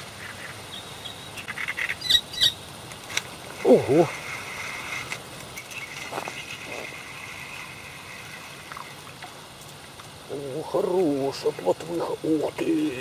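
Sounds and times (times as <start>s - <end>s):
birds chirping: 0.0s - 13.0s
faint high insect hum: 0.0s - 13.0s.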